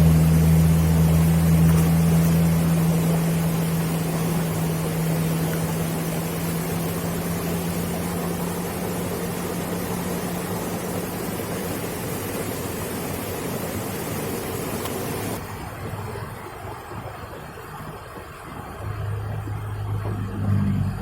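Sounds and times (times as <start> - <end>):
low steady hum: 0.0 - 21.0
steady rushing noise: 0.0 - 21.0.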